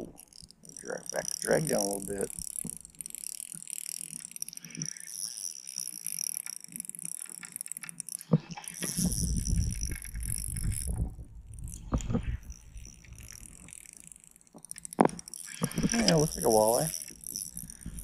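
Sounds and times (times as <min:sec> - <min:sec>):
fishing reel cranking: 0:00.0 - 0:18.0.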